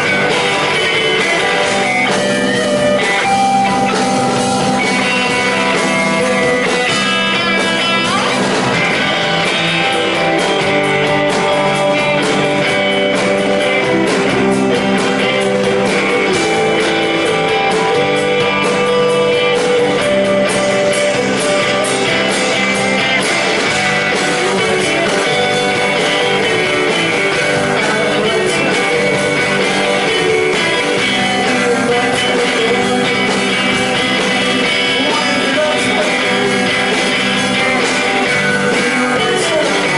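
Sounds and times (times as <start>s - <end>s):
electric guitars: 0.0s - 39.9s
live rock band playing: 0.0s - 39.9s.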